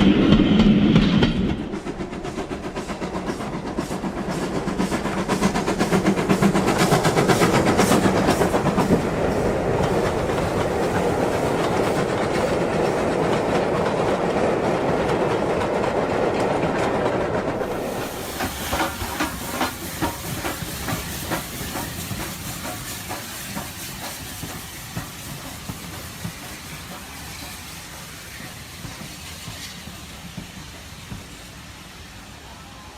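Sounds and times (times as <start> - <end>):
model train rumbling: 0.0 - 32.9
wheels clicking over rail joints: 0.2 - 31.3.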